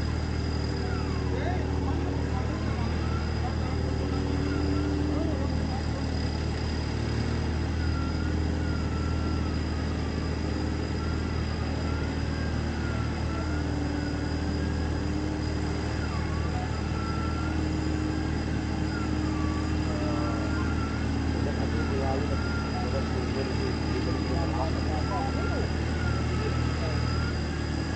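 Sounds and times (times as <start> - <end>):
engine running at low revs: 0.0 - 27.9
thin wavering high tone: 0.0 - 27.9.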